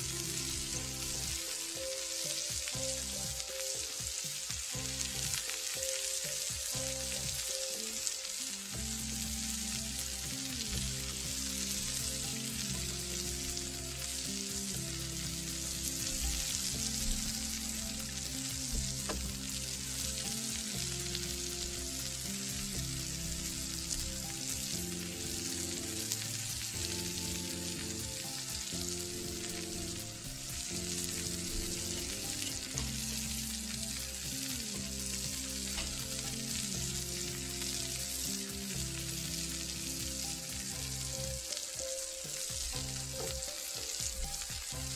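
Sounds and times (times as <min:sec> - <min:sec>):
burger patties sizzling on griddle: 0:00.0 - 0:44.9
instrumental background music: 0:00.0 - 0:44.9.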